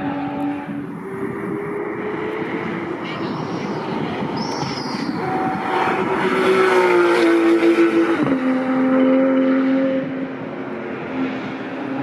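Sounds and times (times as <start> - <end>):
race car engine passing: 0.0 - 12.0.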